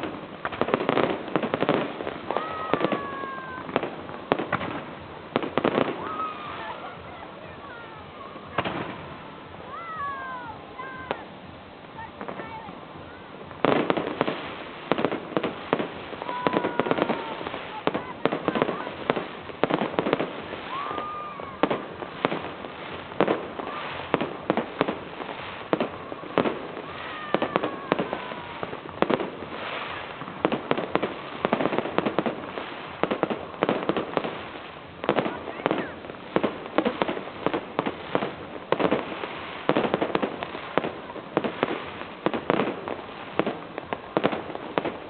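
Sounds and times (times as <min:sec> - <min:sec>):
fireworks banging and crackling: 0:00.0 - 0:45.0.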